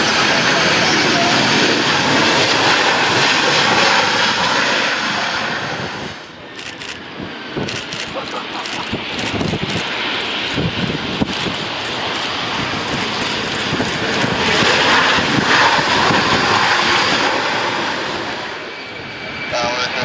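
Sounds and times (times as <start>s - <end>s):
airliner engines roaring: 0.0s - 20.0s.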